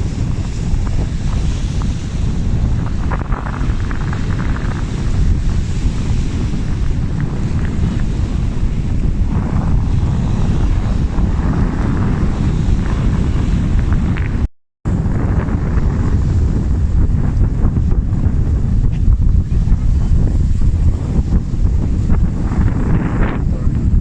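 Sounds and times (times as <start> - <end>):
surf hissing: 0.0 - 24.0
wind buffeting microphone: 0.0 - 24.0.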